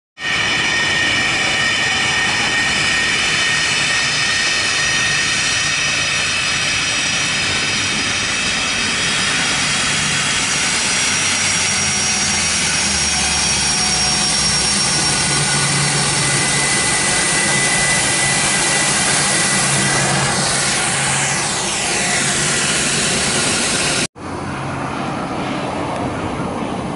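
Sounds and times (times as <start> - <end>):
high turbine whine: 0.2 - 26.9
jet engine roar: 0.2 - 26.9.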